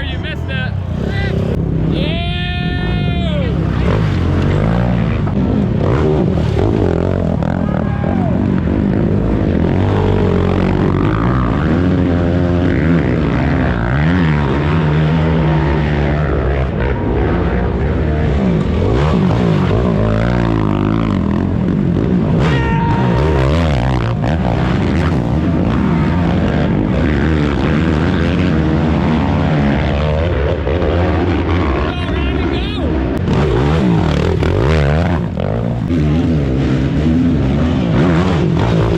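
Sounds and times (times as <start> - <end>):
racing atv engines revving: 0.0 - 38.9.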